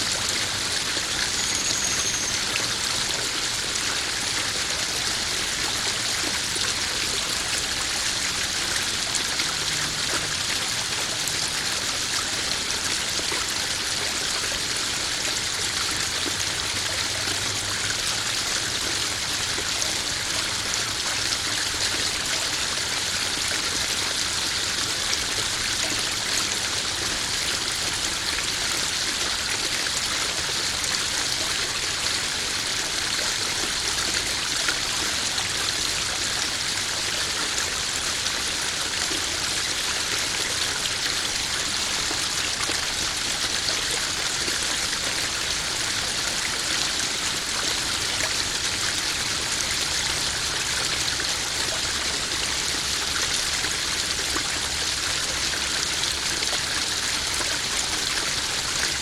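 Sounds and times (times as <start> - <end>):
waterfall splashing into pond: 0.0 - 59.0.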